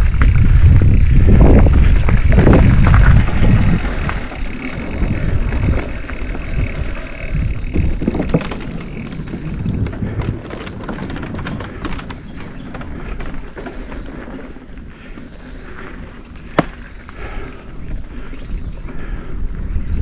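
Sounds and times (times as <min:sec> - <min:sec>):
wind rumble on microphone: 0:00.0 - 0:14.8, 0:15.7 - 0:20.0
bike rattling over rough ground: 0:00.0 - 0:20.0.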